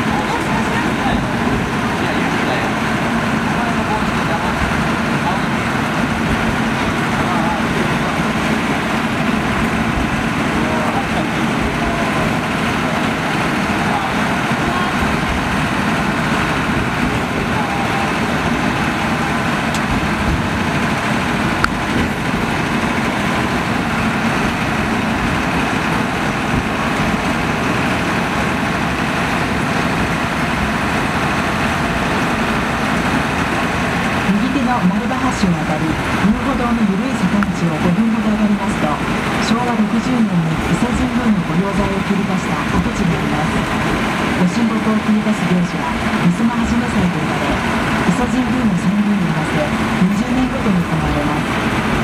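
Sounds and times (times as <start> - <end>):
small train rumbling on rails: 0.0 - 52.0.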